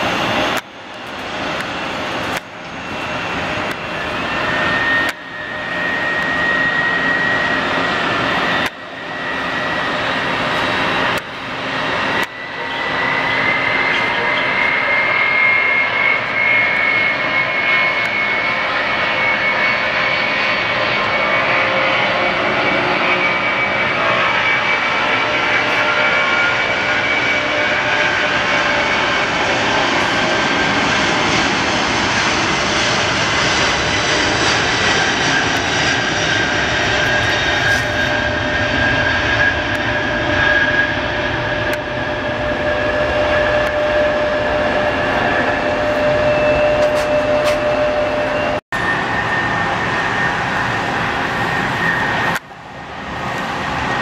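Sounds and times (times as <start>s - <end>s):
gliding engine whine: 0.0s - 54.0s
jet engines roaring: 0.0s - 54.0s.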